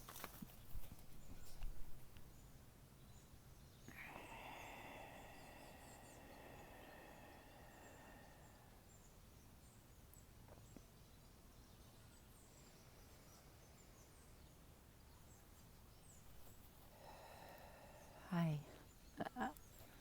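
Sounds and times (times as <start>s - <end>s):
faint steady hum: 0.0s - 20.0s
distant bird chirps: 2.2s - 20.0s.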